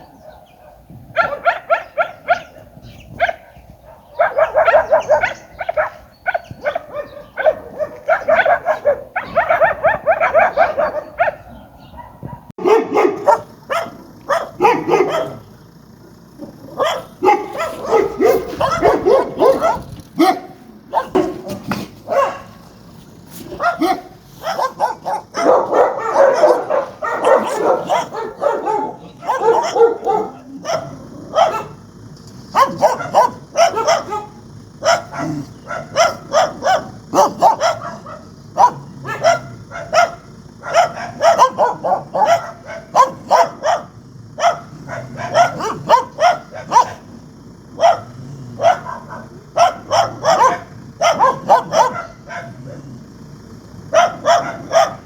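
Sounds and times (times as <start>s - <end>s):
dogs barking angrily: 0.0s - 55.0s.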